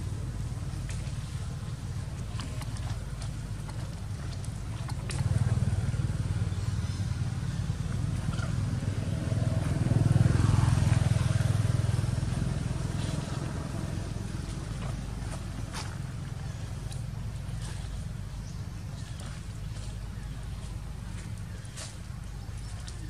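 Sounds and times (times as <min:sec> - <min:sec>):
motor vehicle engine passing: 0:00.0 - 0:23.0.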